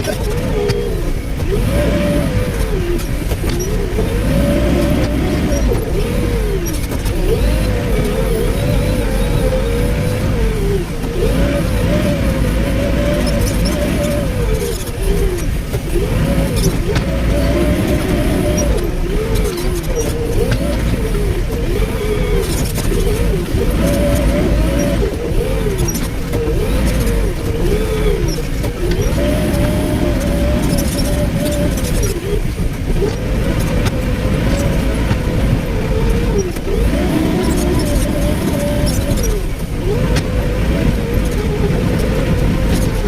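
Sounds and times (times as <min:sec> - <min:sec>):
excavator diesel engine under load: 0:00.0 - 0:43.0
sharp clicks and knocks: 0:00.0 - 0:43.0.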